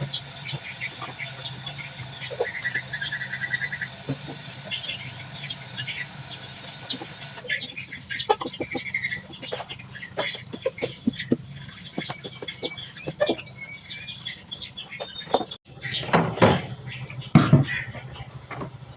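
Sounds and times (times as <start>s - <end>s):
small birds chirping: 0.0s - 18.9s
steady low hum: 0.0s - 18.9s.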